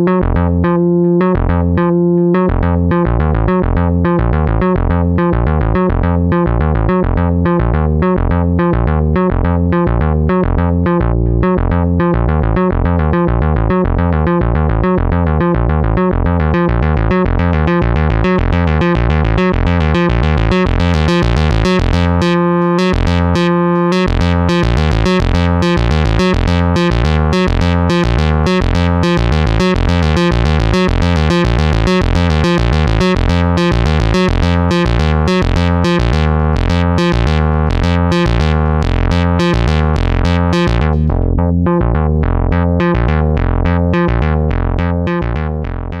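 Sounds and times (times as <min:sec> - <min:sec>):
synth bass line: 0:00.0 - 0:46.0
synth sequenced melody: 0:00.0 - 0:46.0.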